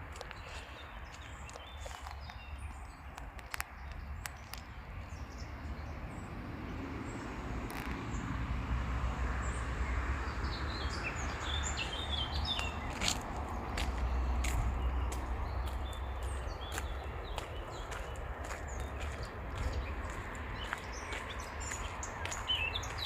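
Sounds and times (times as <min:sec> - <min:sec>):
small birds chirping: 0:00.0 - 0:08.4, 0:09.4 - 0:23.0.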